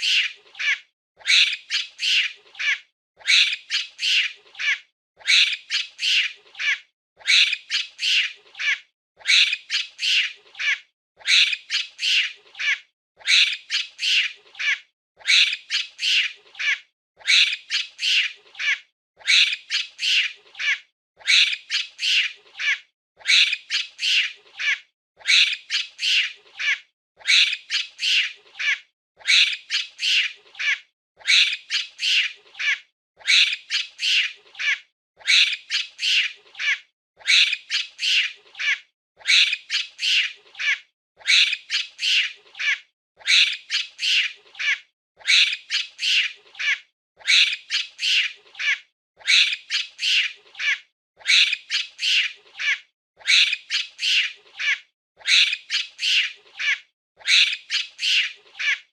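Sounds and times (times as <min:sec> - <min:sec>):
monkey shrieking calls: 0:00.0 - 0:58.9.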